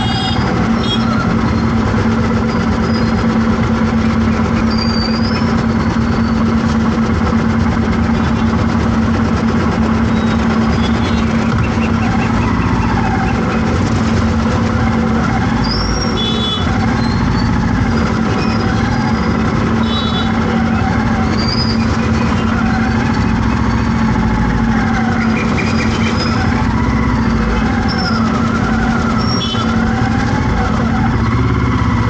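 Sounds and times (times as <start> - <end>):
vehicle engines humming: 0.0 - 32.0.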